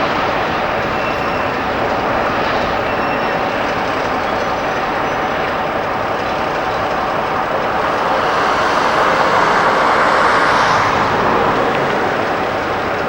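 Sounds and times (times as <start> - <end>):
train running past: 0.0 - 13.0.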